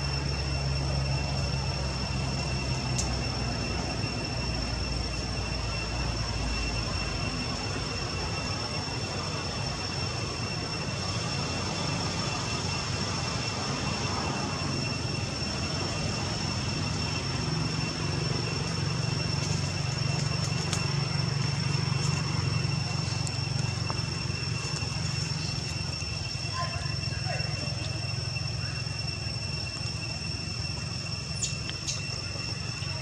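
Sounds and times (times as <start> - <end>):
high-pitched whines: 0.0 - 33.0.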